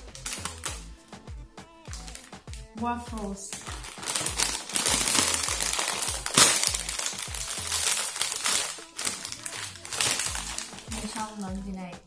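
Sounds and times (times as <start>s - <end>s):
crisp packet crinkling: 0.0s - 0.9s, 1.8s - 2.7s, 3.4s - 11.7s.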